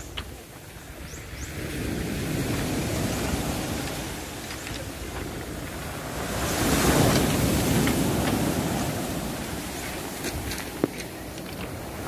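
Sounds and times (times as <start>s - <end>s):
waves on rocky shore: 0.0s - 12.0s.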